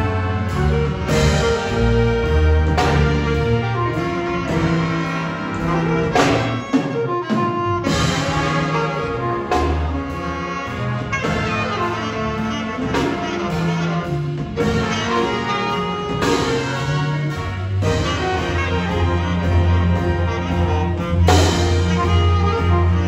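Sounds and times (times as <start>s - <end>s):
jazz big band playing: 0.0s - 23.0s.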